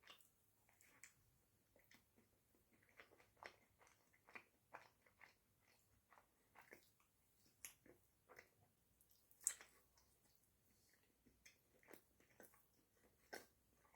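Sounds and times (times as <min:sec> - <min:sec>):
person chewing pastry: 0:01.8 - 0:13.9.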